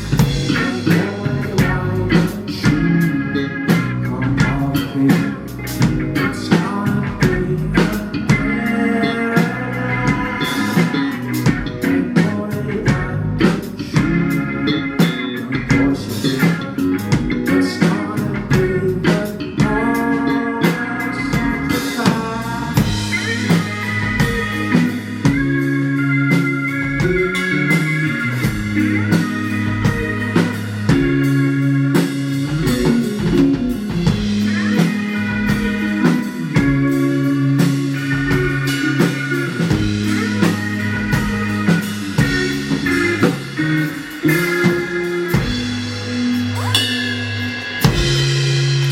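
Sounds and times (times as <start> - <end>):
bending lead guitar line: 0.0 - 48.9
live rock band playing: 0.0 - 48.9.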